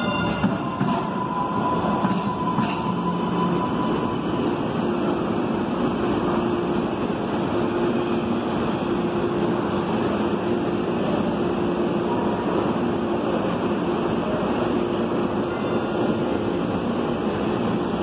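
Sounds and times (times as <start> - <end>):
light-rail train rumbling: 0.0 - 18.0.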